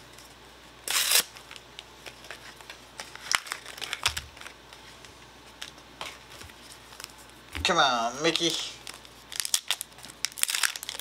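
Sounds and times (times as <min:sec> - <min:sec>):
foil wrappers crinkling: 0:00.8 - 0:07.4, 0:08.0 - 0:11.0.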